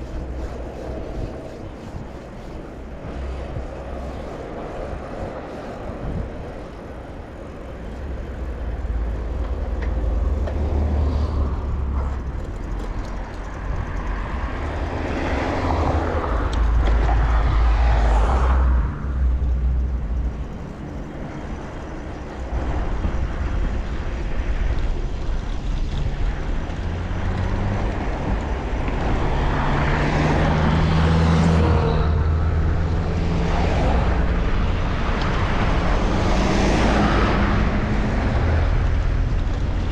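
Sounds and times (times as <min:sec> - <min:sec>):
road traffic passing: 0:00.0 - 0:39.9
wind rumbling on microphone: 0:00.0 - 0:39.9.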